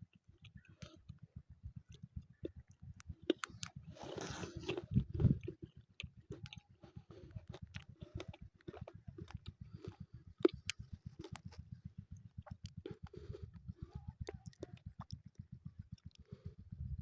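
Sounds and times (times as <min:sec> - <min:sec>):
low pulsing: 0:00.0 - 0:17.0.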